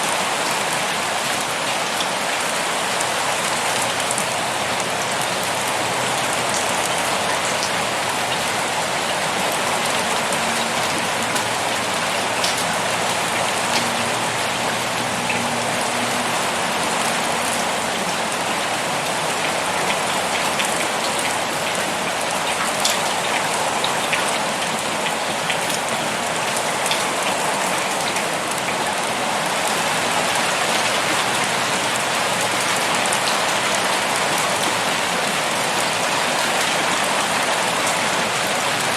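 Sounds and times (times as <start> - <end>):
heavy rain pouring: 0.0 - 38.9
raindrops ticking on a surface: 0.1 - 38.9.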